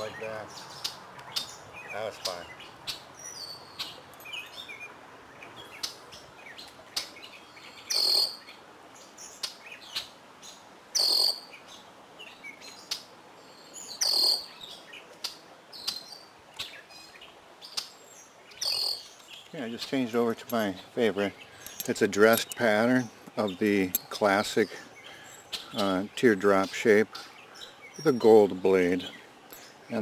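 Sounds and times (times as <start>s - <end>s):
faint bird chirps: 0.0s - 30.0s
songbird singing phrase: 0.0s - 30.0s.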